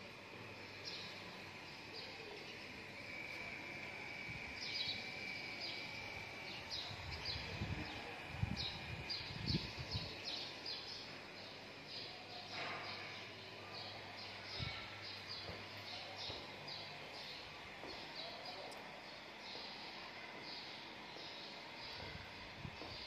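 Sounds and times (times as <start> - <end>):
faint background hum: 0.0 - 23.0
small birds chirping: 0.0 - 23.0.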